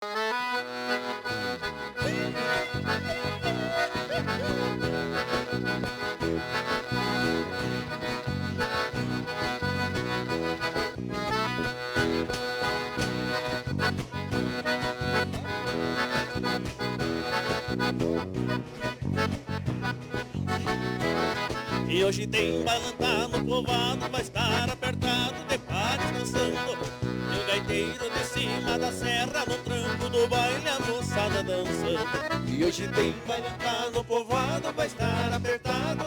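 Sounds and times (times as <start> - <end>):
accordion dance tune: 0.0 - 36.0.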